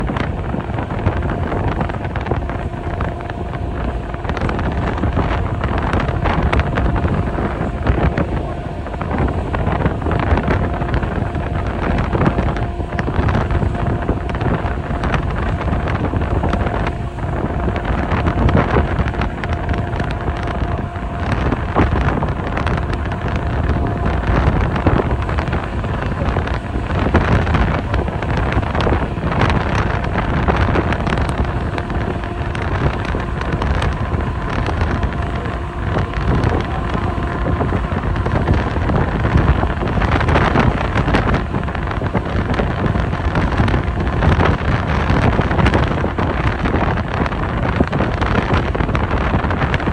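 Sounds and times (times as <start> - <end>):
faint constant hum: 0.0 - 49.9
ferry engine drone: 0.0 - 49.9
wind buffeting microphone: 0.0 - 49.9.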